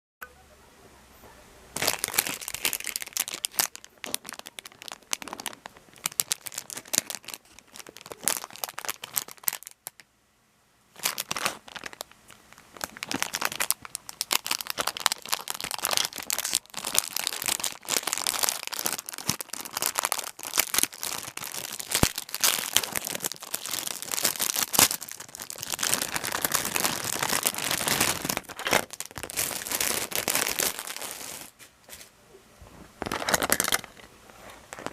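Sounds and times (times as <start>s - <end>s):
plastic packaging crinkling: 1.8s - 10.0s, 11.0s - 31.6s, 33.0s - 34.9s.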